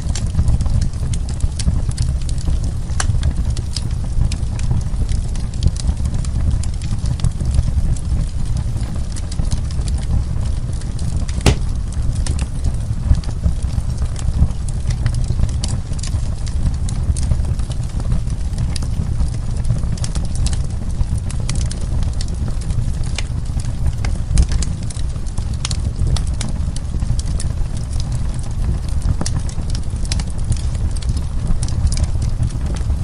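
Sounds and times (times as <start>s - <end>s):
fire flames rumbling: 0.0s - 33.0s
wood fire crackling and popping: 0.0s - 33.0s.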